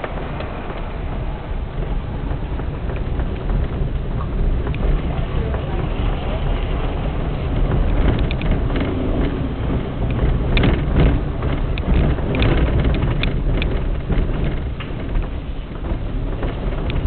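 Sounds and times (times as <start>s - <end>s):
knocks and rattles over bumps: 0.0s - 17.0s
vehicle rumbling: 0.0s - 17.0s
wind on microphone: 0.0s - 17.0s.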